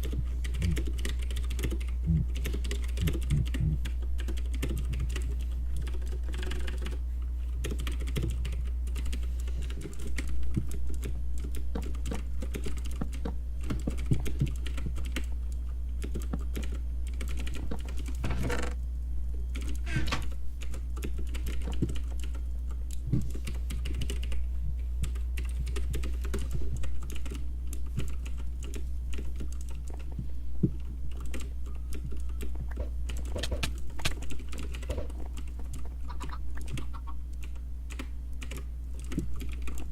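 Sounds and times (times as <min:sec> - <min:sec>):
typing on a keyboard: 0:00.0 - 0:07.0, 0:07.6 - 0:18.2, 0:19.5 - 0:19.8, 0:20.6 - 0:24.4, 0:25.0 - 0:30.1, 0:31.1 - 0:39.9
steady low hum: 0:00.0 - 0:39.9.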